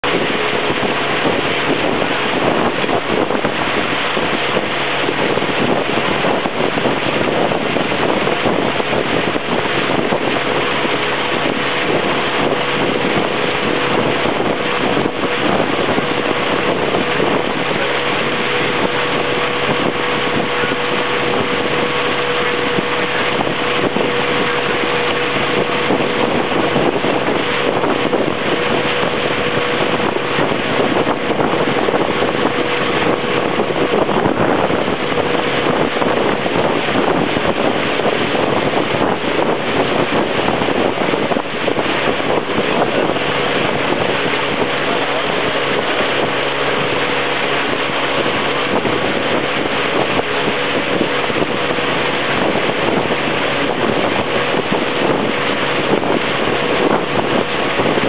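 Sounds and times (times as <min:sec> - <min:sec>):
motorboat engine drone: 0:00.0 - 0:58.0
wind buffeting microphone: 0:00.0 - 0:58.0.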